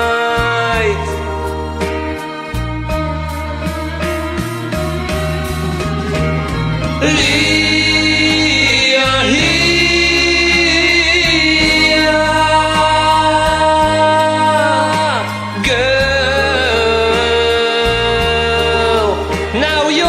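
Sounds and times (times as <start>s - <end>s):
choir-like harmonies: 0.0s - 20.0s
steady bass line: 0.0s - 20.0s.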